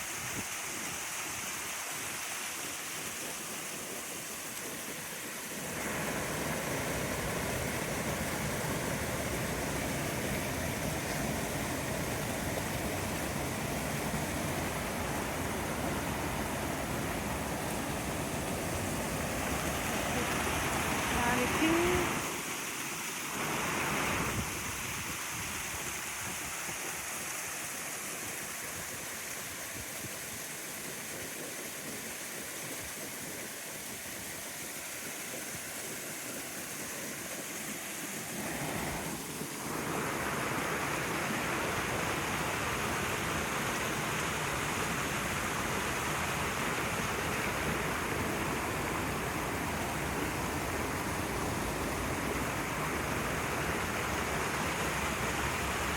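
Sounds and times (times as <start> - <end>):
running water rushing: 0.0 - 55.9.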